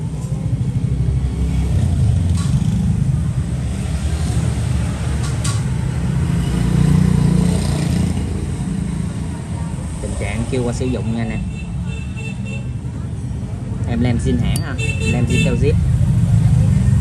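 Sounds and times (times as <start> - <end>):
motor traffic rumble: 0.0 - 11.9, 12.6 - 17.0.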